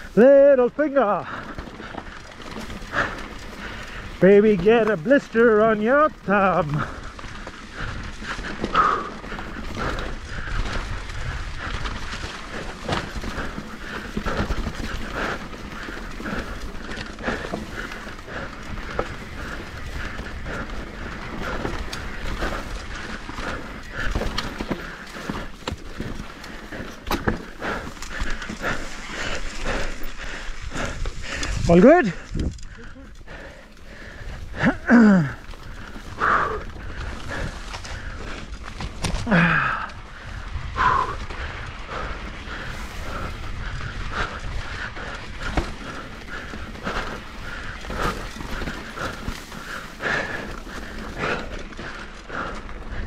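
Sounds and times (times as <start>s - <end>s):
bike rattling and knocking: 0.0s - 53.0s
rumble of tyres and wind: 0.0s - 53.0s.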